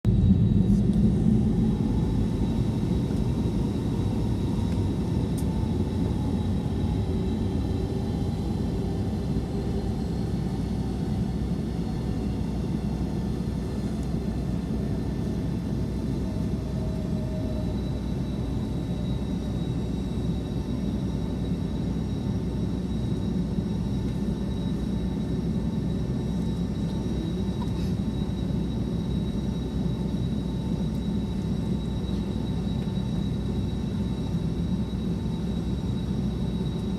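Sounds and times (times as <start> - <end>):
jet engines rumbling in cabin: 0.0 - 36.9.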